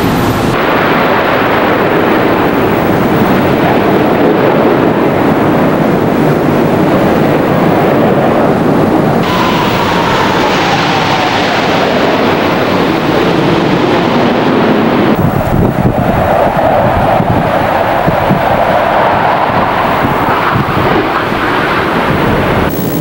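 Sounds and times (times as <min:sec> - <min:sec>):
jet aircraft passing overhead: 0:00.0 - 0:23.0
jet whine falling in pitch: 0:00.0 - 0:23.0.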